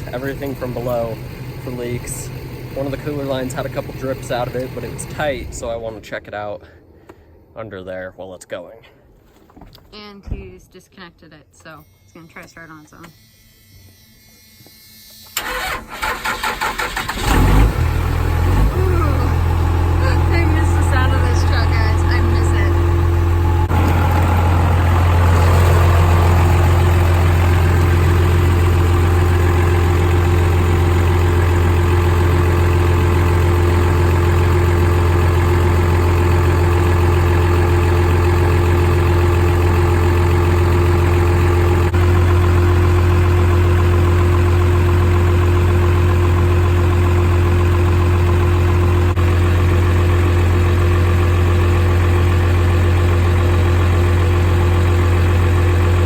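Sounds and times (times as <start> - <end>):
diesel engine idling: 0.0 - 5.9, 15.4 - 56.0.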